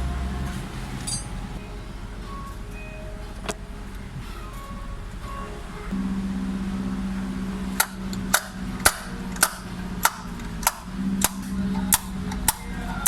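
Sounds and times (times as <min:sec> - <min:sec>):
ringing hammer blows: 0:00.0 - 0:13.0.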